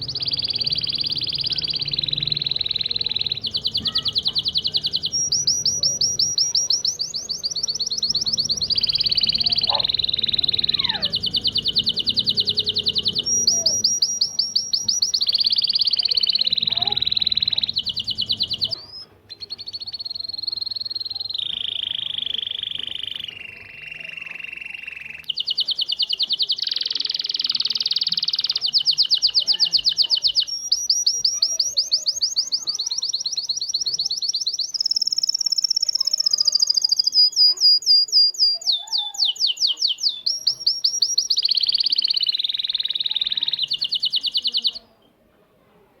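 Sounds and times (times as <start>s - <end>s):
canary singing trills: 0.0s - 45.2s.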